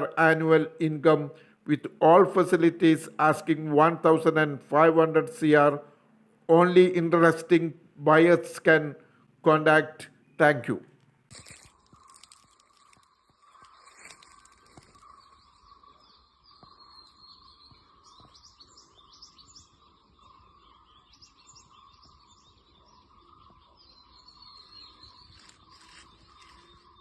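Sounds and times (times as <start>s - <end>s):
faint birds chirping: 0.0s - 27.0s.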